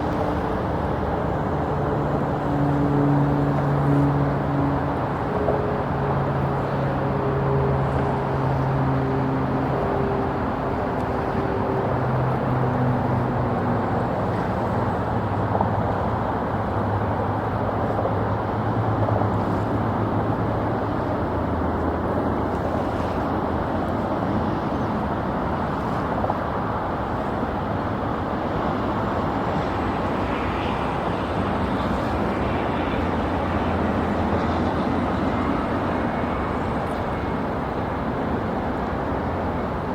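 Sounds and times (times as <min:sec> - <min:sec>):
jet airliner rushing and rumbling: 0:00.0 - 0:39.9.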